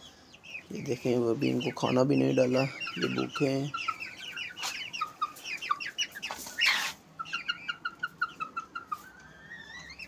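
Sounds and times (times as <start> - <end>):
young chickens peeping: 0.0 - 10.0.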